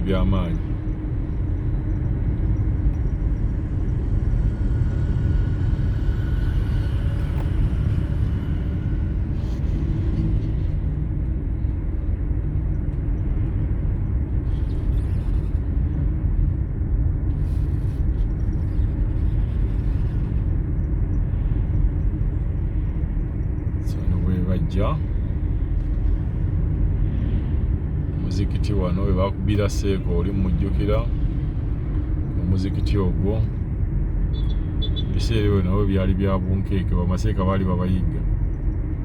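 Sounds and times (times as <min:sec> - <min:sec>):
car engine: 0:00.0 - 0:39.0
road noise: 0:00.0 - 0:39.0.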